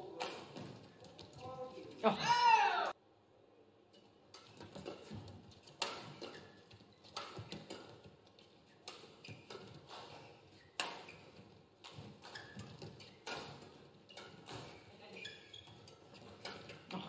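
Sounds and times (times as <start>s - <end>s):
rackets hitting shuttlecock: 0.0s - 0.9s, 4.0s - 17.0s.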